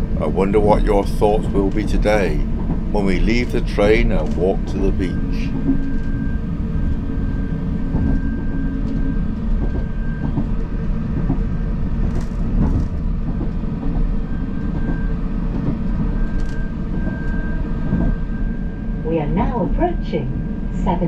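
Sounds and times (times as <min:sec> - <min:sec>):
constant whine: 0:00.0 - 0:21.0
train rumble from inside carriage: 0:00.0 - 0:21.0.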